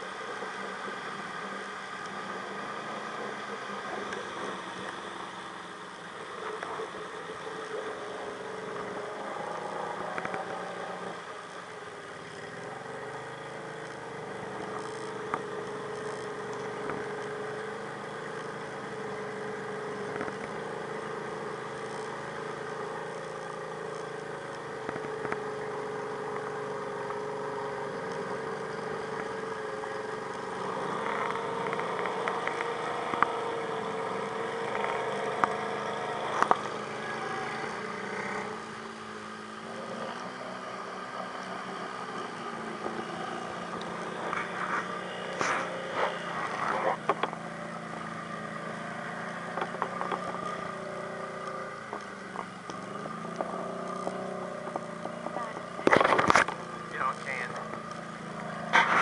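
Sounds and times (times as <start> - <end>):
off-road vehicle engines idling: 0.0 - 59.0.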